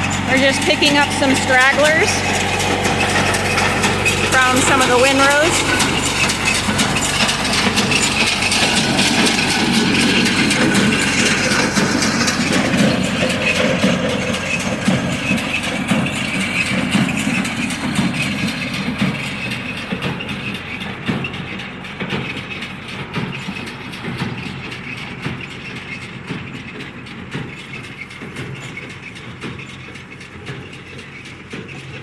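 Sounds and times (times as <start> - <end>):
baler mechanical clatter: 0.0 - 32.0
tractor diesel engine running: 0.0 - 32.0.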